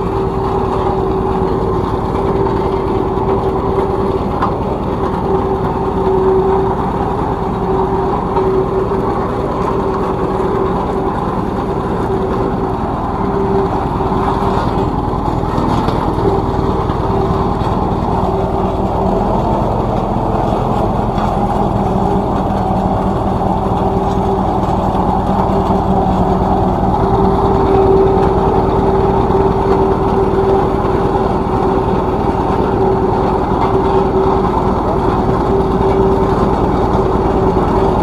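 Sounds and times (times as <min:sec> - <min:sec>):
road roller engine humming: 0:00.0 - 0:38.0.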